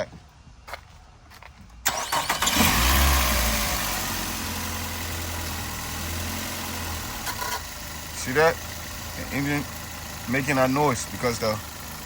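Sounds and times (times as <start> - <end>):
car engine starting and idling: 1.8 - 12.0.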